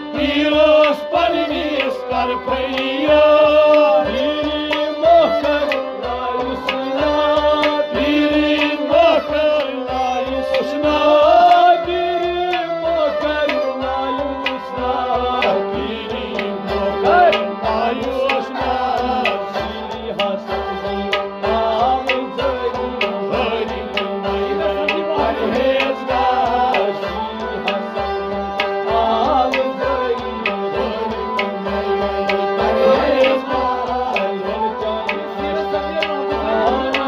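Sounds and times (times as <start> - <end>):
bowed string melody: 0.0 - 37.0
harmonium steady tones: 0.0 - 37.0.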